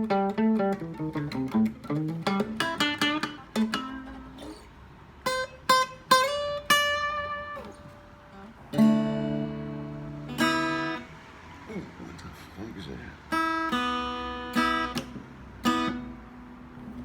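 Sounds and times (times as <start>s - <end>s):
acoustic guitar blues: 0.0s - 12.6s, 13.2s - 17.0s.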